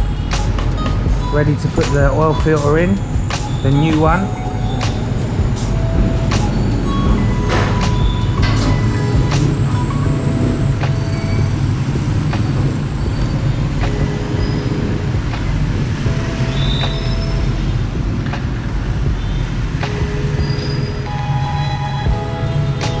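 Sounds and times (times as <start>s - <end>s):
steady low drone: 0.0s - 19.8s
slow background music beat: 0.0s - 23.0s.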